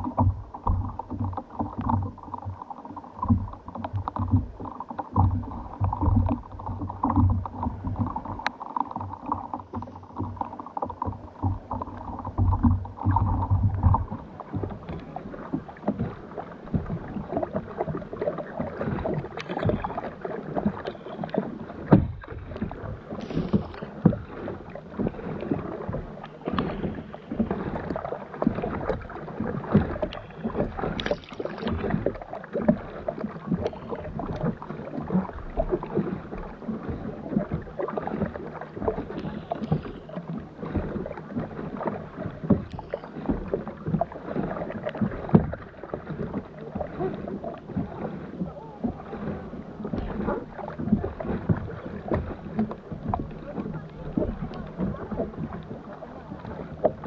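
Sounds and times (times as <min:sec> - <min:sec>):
paddle strokes splashing: 0:00.0 - 0:57.0
water lapping against kayak hull: 0:00.0 - 0:57.0.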